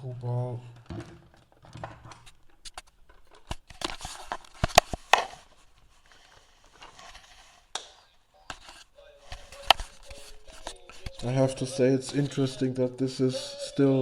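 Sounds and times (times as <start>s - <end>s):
toy ball handling noises: 0.7s - 12.7s.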